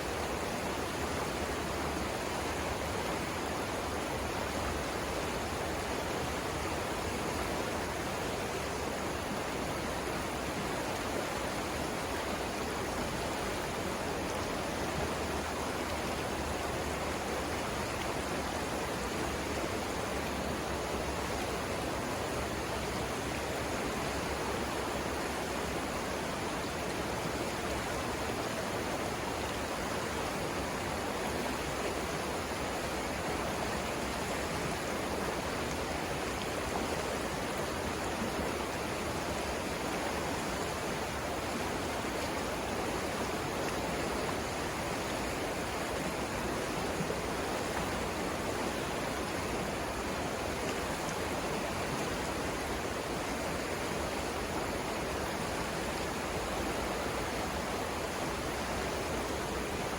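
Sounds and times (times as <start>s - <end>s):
river water rushing over rapids: 0.0s - 59.9s.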